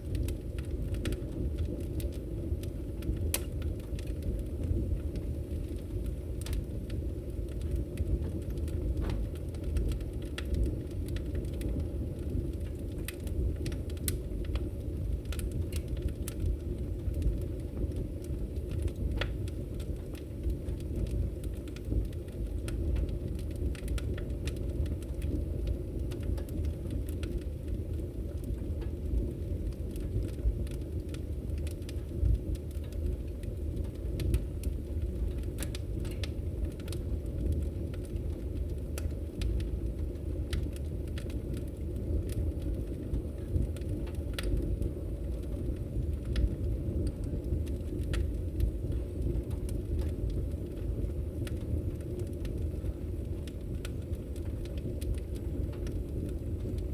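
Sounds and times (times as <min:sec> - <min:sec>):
fire crackling and popping: 0:00.0 - 0:56.9.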